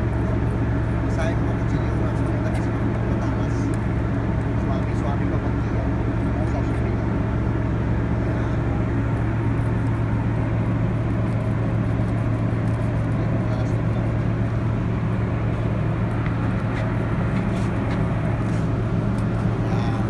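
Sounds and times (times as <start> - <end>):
ship engine drone: 0.0 - 20.0.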